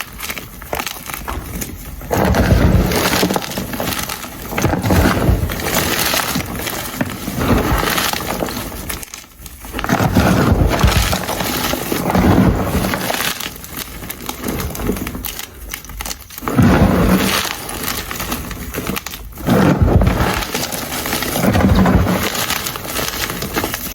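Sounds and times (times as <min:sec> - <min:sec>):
chalk crunching: 0:00.0 - 0:23.9.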